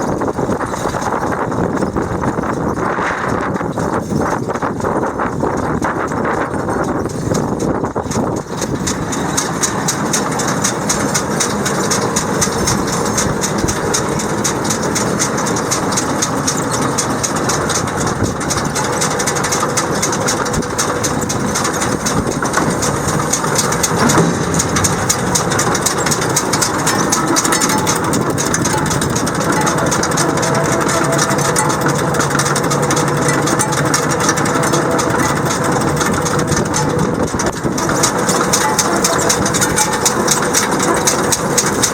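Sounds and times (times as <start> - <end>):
machinery rattling: 0.0 - 41.9
tractor engine running: 0.0 - 41.9.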